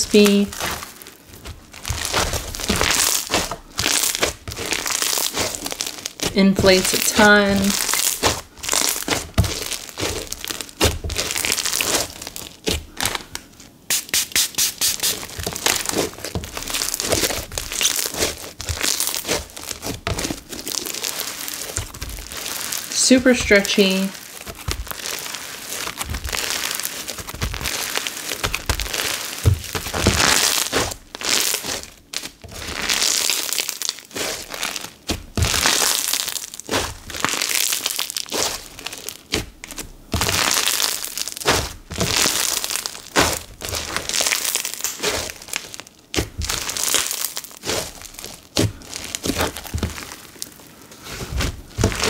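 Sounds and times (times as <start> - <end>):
slime crackling: 0.0 - 52.0.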